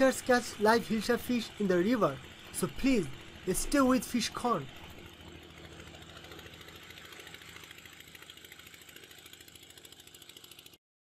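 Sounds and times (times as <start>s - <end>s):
boat engine running: 0.0s - 10.8s.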